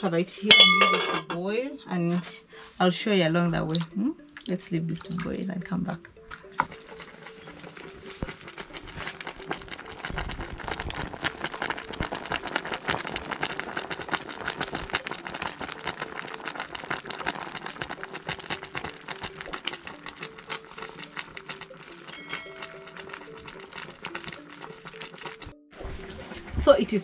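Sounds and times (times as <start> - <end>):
faint music: 0.0 - 27.0
saucepan boiling and crackling: 3.6 - 27.0.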